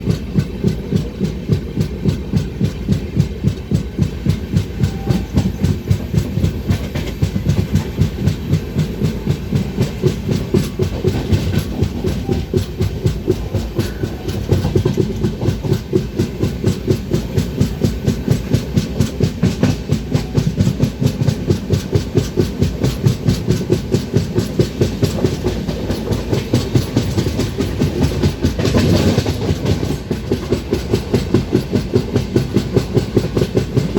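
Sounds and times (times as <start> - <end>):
train rumble: 0.0 - 33.9
train wheels clickety-clack: 0.0 - 33.9.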